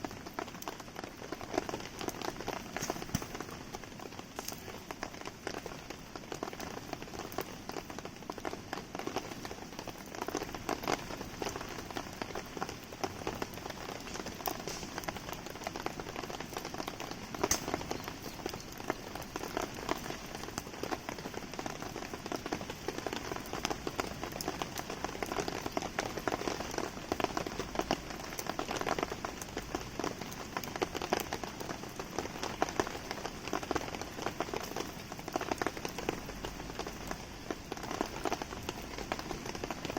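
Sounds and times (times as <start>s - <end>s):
campfire popping and crackling: 0.0s - 39.9s
rain pattering: 0.0s - 39.9s.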